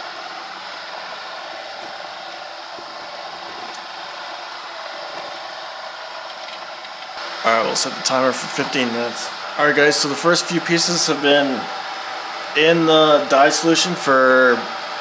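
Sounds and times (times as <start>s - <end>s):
fan-like whooshing hiss: 0.0s - 15.0s.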